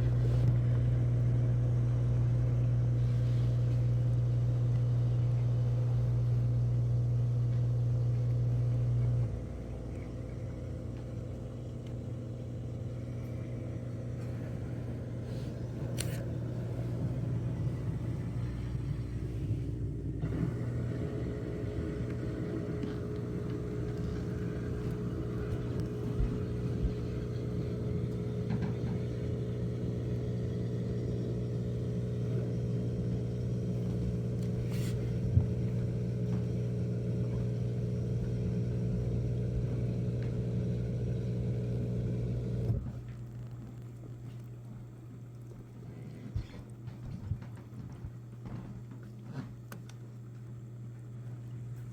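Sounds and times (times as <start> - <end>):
dishwasher pump motor humming: 0.0 - 51.9.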